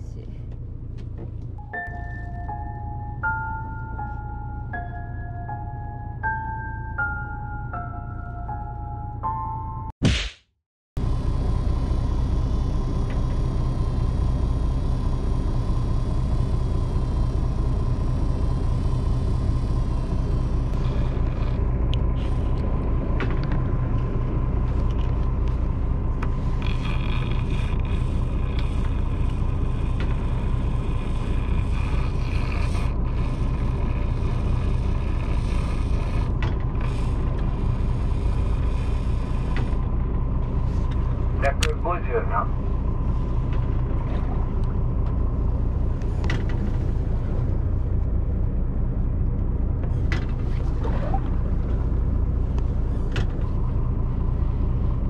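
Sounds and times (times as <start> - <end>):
boat engine rumbling: 0.0 - 9.8, 11.0 - 55.0.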